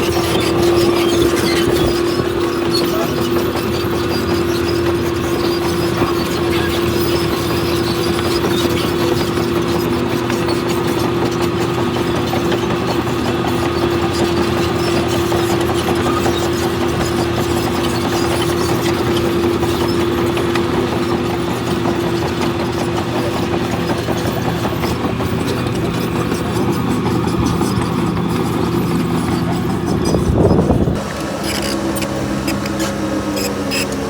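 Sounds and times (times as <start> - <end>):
diesel engine running steadily: 0.0 - 34.0.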